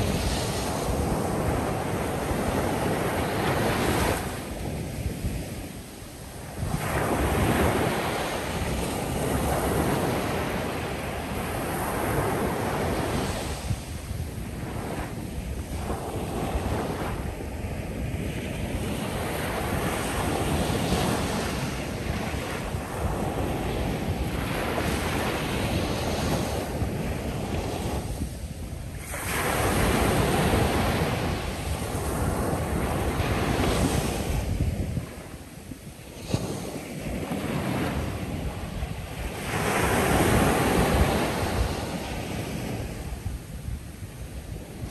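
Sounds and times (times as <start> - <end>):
waves breaking on sandy shore: 0.0 - 44.9.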